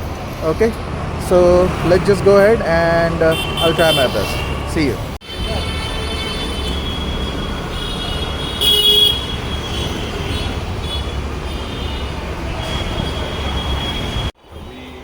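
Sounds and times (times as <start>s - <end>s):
traffic rumble: 0.0s - 15.0s
car horns honking: 0.6s - 15.0s.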